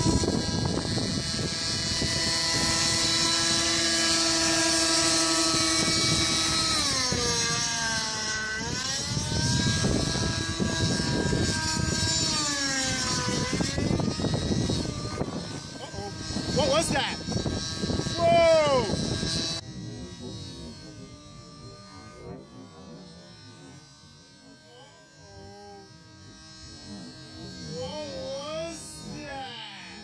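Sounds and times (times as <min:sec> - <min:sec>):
model helicopter engine whine: 0:00.0 - 0:30.0.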